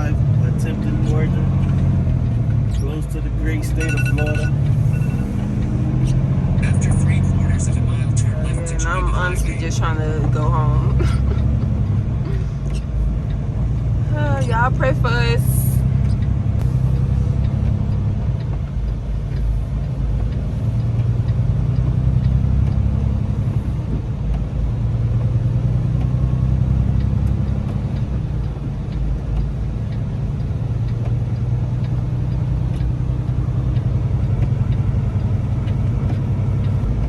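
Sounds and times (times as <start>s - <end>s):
road noise: 0.0s - 37.0s
truck diesel engine rumble: 0.0s - 37.0s.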